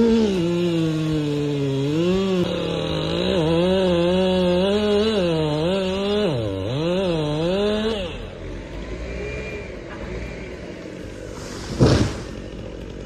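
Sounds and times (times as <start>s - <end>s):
chainsaw cutting through tree trunk: 0.0s - 13.0s.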